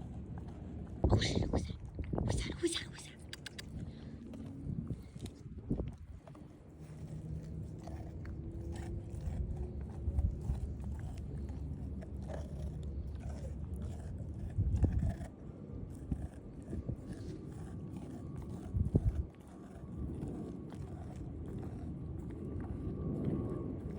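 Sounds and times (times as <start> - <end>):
puppy chewing meat: 0.0 - 23.9.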